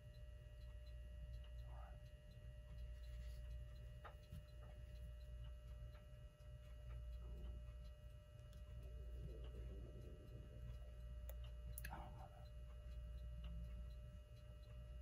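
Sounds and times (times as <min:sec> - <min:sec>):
faint steady hum: 0:00.0 - 0:15.0
light ticking: 0:00.0 - 0:15.0.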